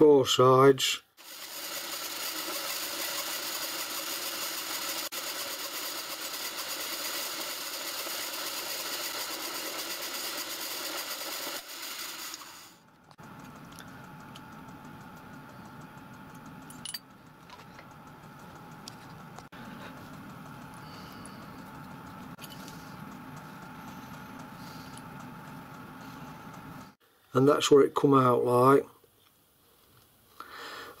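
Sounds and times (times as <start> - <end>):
milling machine whining: 1.2 - 27.0.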